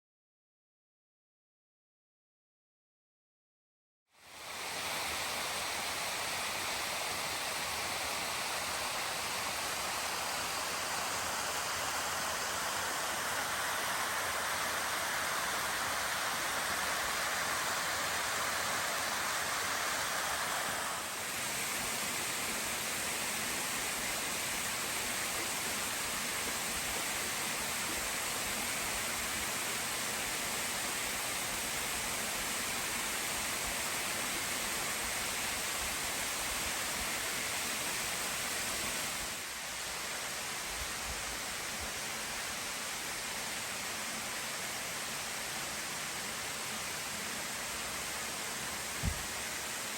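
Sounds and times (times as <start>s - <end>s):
waterfall rushing: 4.2s - 49.9s.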